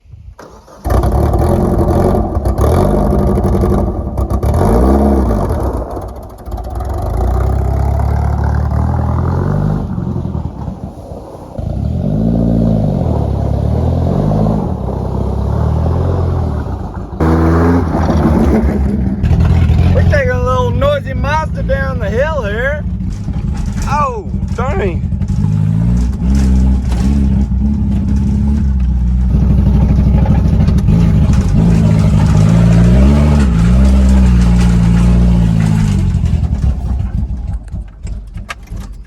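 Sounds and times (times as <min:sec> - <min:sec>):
diesel engine revving: 0:00.4 - 0:38.4.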